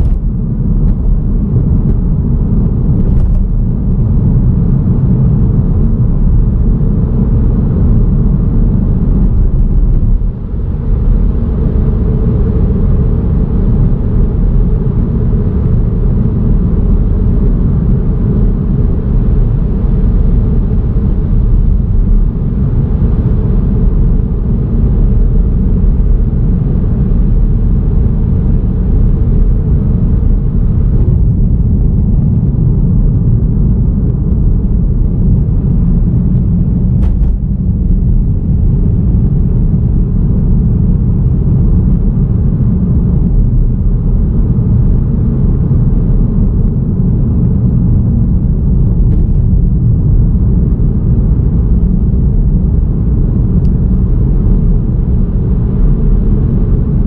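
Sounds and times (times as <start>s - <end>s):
road and wind noise in car: 0.0s - 57.0s.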